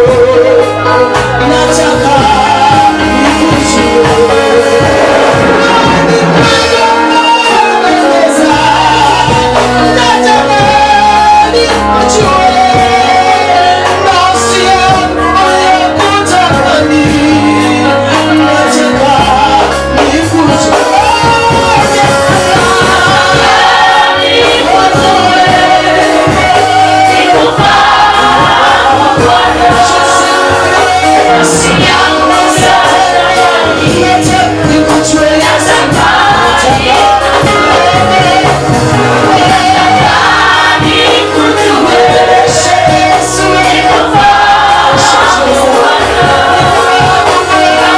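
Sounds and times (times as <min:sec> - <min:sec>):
bass line: 0:00.0 - 0:47.9
group singing gospel music: 0:00.0 - 0:47.9.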